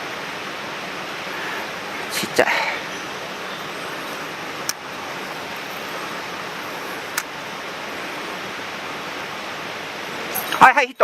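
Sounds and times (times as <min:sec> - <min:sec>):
rushing stream water: 0:00.0 - 0:11.0.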